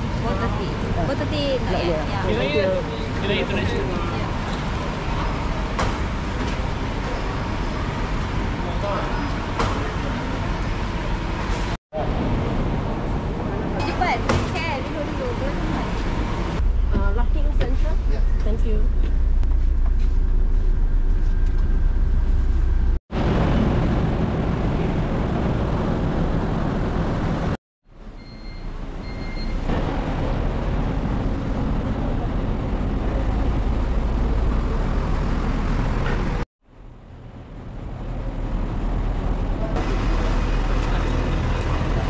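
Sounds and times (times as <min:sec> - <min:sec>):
bus engines rumbling: 0:00.0 - 0:42.0.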